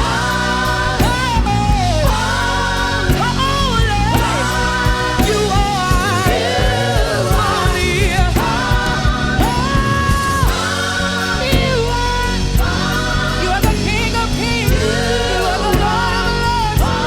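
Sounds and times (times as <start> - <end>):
band with drums and bass: 0.0 - 17.0.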